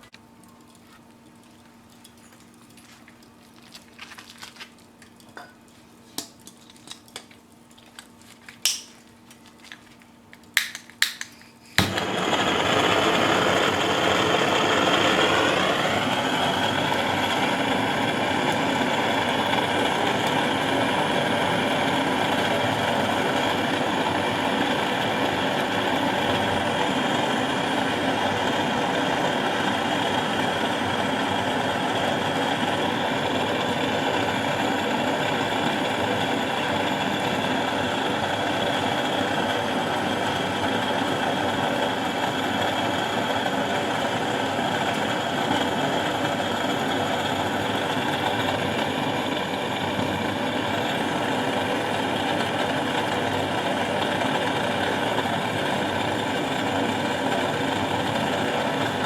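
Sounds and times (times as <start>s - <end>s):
gas torch hissing: 10.6s - 59.0s.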